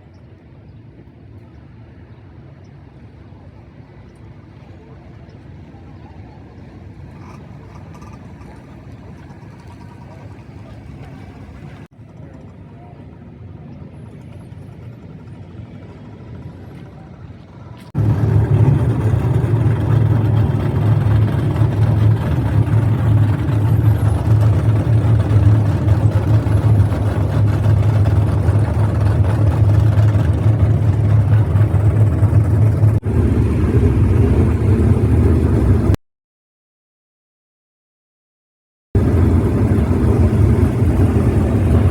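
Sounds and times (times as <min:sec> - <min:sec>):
race car engines running: 0:04.9 - 0:36.0, 0:39.0 - 0:41.9.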